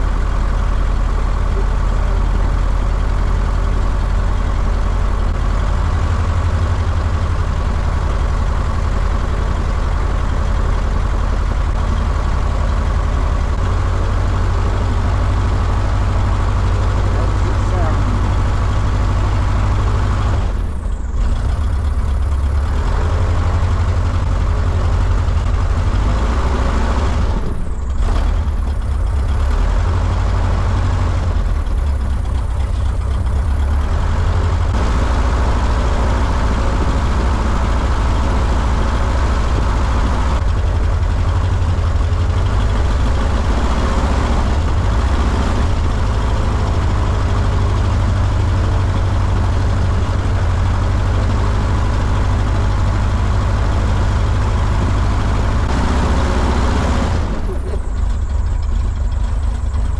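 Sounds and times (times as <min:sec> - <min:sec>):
light aircraft engine running: 0:00.0 - 0:59.9.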